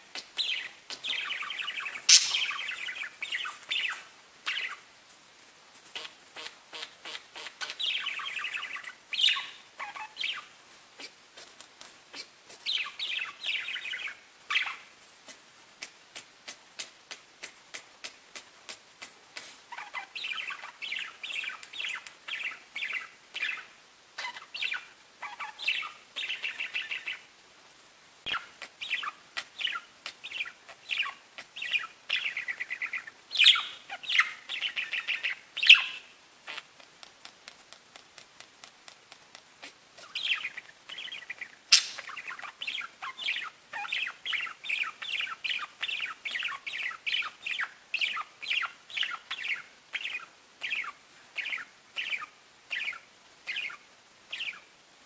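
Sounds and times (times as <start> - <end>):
budgerigars chirping and warbling: 0.1 - 4.9, 6.0 - 11.2, 12.1 - 14.9, 15.8 - 27.3, 28.3 - 36.9, 39.6 - 54.7.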